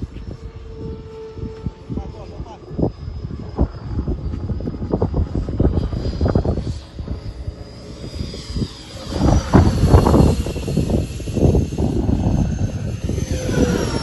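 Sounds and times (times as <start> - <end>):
model jet whine: 0.0 - 14.0
wind buffeting microphone: 0.0 - 14.0.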